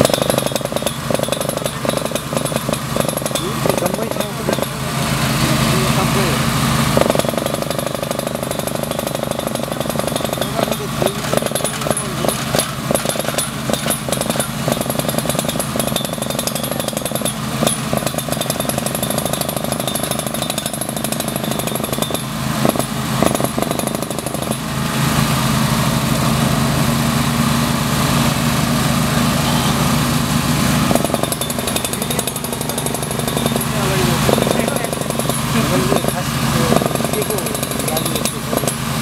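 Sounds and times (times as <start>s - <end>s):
drilling machine engine running: 0.0s - 39.0s.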